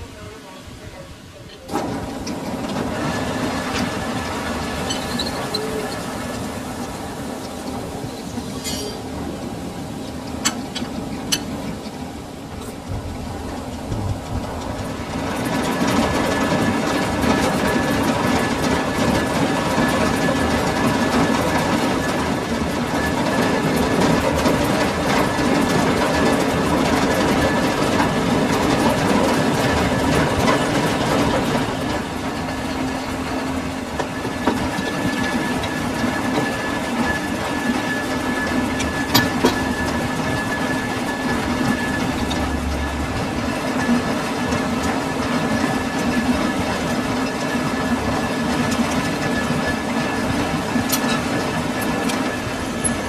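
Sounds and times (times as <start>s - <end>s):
metal lathe running: 1.7s - 53.0s.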